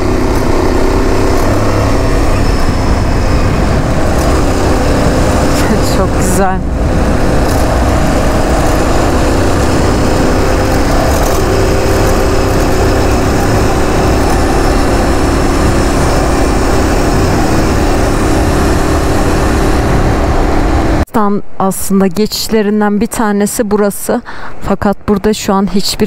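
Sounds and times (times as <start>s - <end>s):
heavy wind noise: 0.0s - 21.1s
motorcycle engine cruising: 0.0s - 21.1s.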